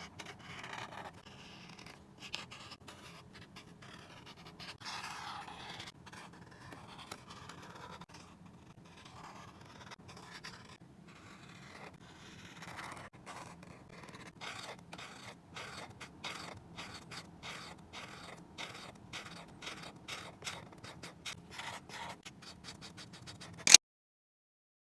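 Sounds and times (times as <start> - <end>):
drawing tool scratching paper: 0.0 - 23.8.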